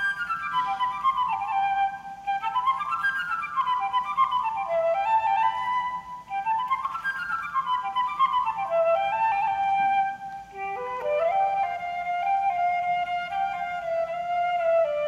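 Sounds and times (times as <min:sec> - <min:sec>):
solo flute playing: 0:00.0 - 0:15.0.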